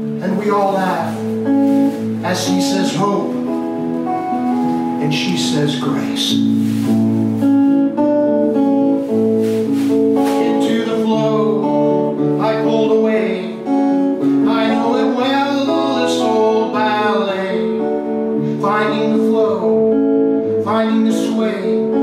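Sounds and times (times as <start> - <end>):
guitar strummed and plucked: 0.0 - 22.0.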